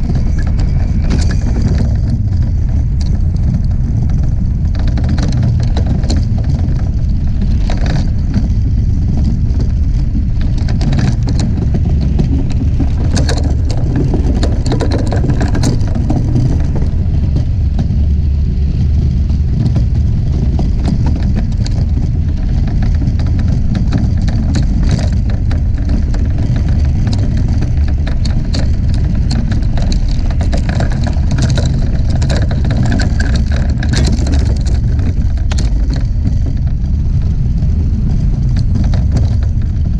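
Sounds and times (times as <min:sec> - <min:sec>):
ice ticking and crackling: 0:00.0 - 0:18.2, 0:18.8 - 0:39.9
iceboat runners rumbling on ice: 0:00.0 - 0:39.9.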